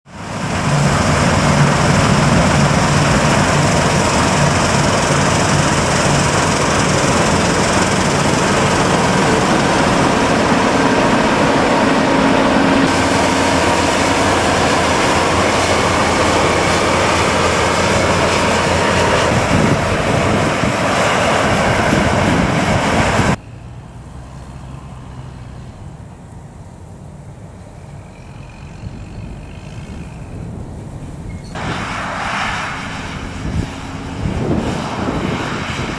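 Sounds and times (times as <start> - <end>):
combine harvester running: 0.1 - 35.9
distant machinery hum: 0.1 - 35.9.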